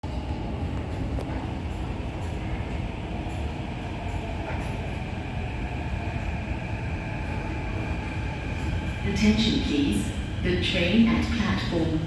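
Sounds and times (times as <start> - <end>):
metro train rumble and hum: 0.0 - 12.0.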